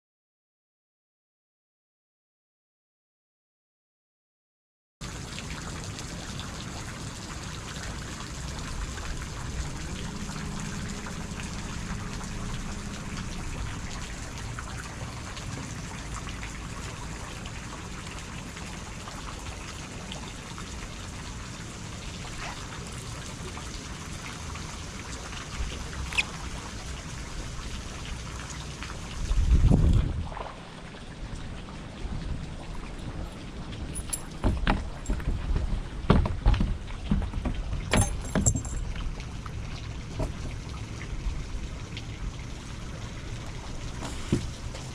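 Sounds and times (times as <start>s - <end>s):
water dripping and trickling: 5.0s - 44.9s.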